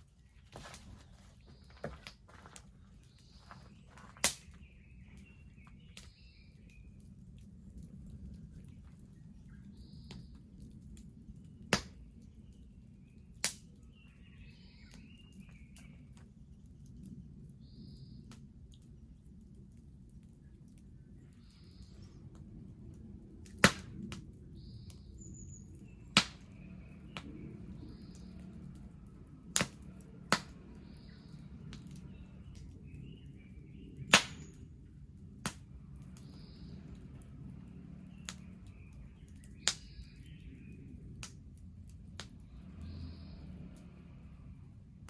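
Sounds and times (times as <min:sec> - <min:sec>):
fire crackling pops: 0:00.0 - 0:45.0
flames rushing: 0:00.0 - 0:45.0.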